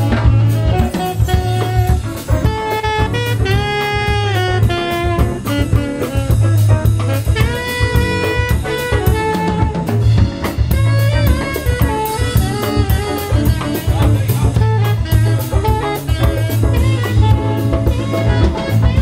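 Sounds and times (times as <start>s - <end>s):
drum kit and cymbal hits: 0.0s - 19.0s
electric guitar: 0.0s - 19.0s
saxophone melody: 0.0s - 19.0s.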